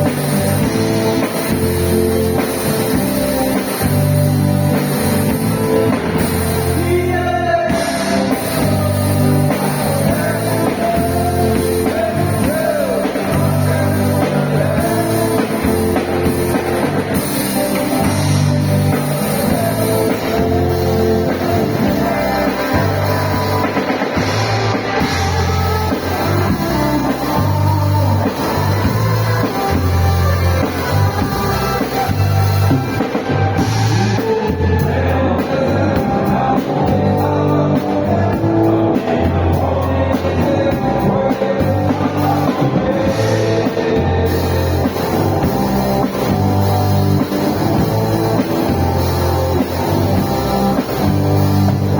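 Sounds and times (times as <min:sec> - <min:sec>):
live band playing: 0:00.0 - 0:51.9
men singing together: 0:00.0 - 0:51.9.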